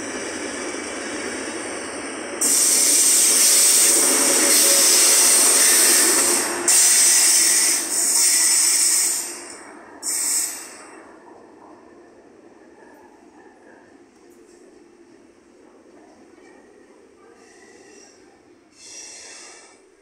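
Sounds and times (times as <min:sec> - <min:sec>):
high-speed train passing: 0:00.0 - 0:20.0.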